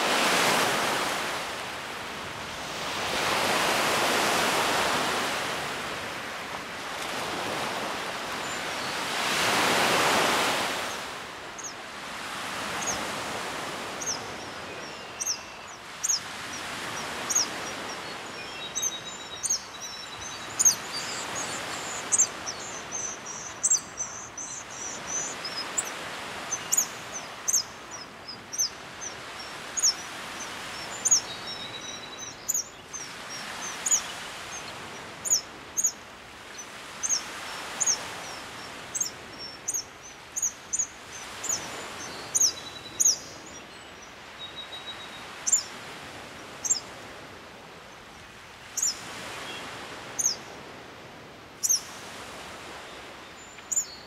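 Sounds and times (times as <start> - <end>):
small birds chirping: 6.9 - 47.2, 47.9 - 50.6, 51.6 - 51.9, 52.6 - 54.0.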